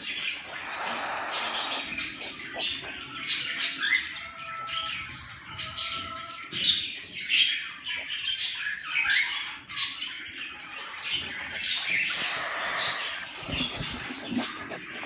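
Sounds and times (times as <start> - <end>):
chicks squawking raspily: 0.0 - 15.0.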